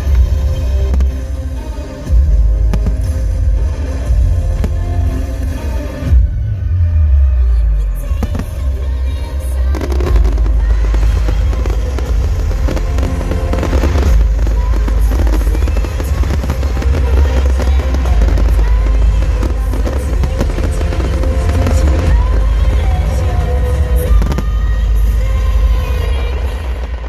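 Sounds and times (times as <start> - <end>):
fireworks crackling and banging: 0.0 - 6.3, 8.0 - 27.0
pop music with heavy bass: 0.0 - 27.0.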